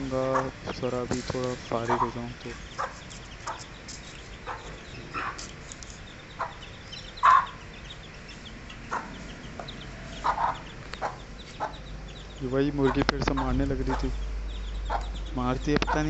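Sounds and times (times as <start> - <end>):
chickens clucking: 0.0 - 16.0
faint high chirping: 0.0 - 16.0.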